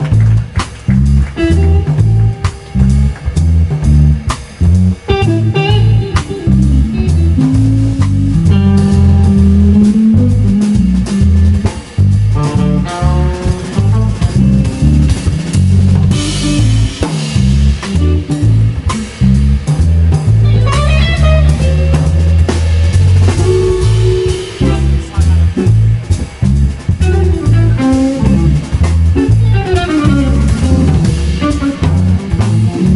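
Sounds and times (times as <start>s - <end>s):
drum kit: 0.0s - 32.9s
electric bass notes: 0.0s - 32.9s
electric guitar melody: 0.0s - 32.9s.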